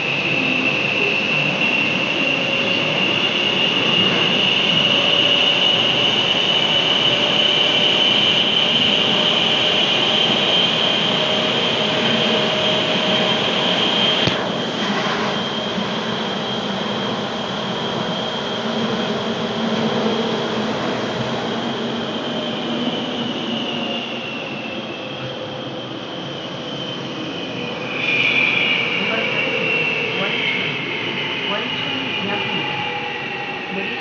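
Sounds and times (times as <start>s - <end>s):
electric train high whine: 0.0s - 34.0s.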